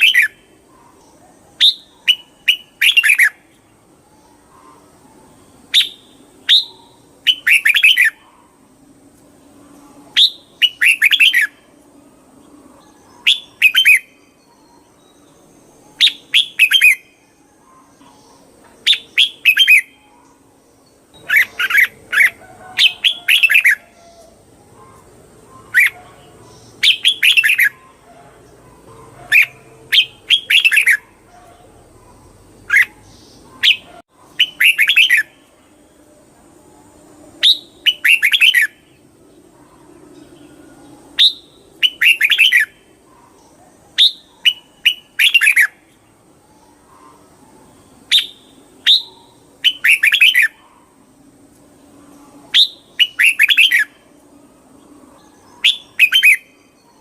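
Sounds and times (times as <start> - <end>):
bird singing warbling phrases: 0.0 - 8.8, 9.4 - 36.0, 36.8 - 51.1, 51.7 - 57.0.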